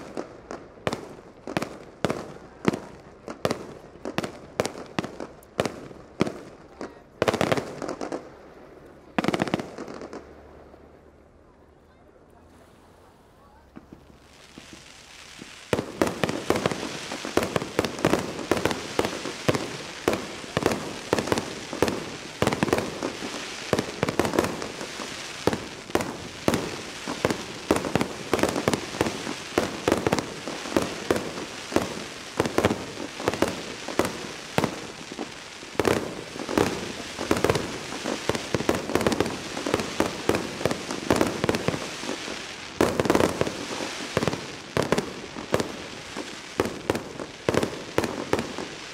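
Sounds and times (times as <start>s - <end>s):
fireworks bangs and crackling: 0.0s - 11.3s, 13.6s - 48.9s.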